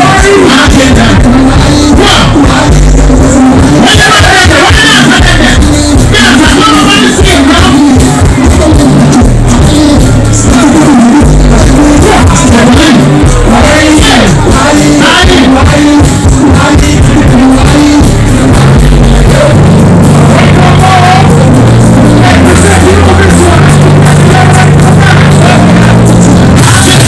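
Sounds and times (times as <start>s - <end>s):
live music with heavy bass: 0.0s - 27.0s
person singing: 0.0s - 27.0s.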